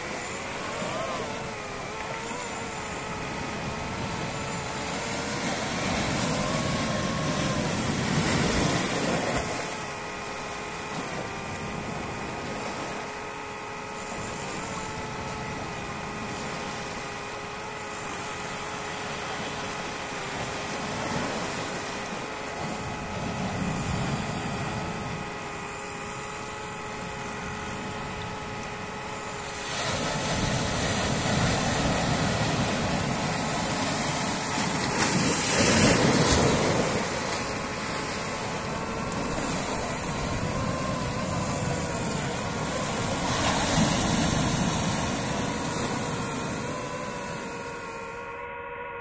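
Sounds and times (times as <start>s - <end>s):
wind noise on microphone: 0.0s - 17.9s, 20.1s - 48.0s
drone motors whining: 0.0s - 49.0s.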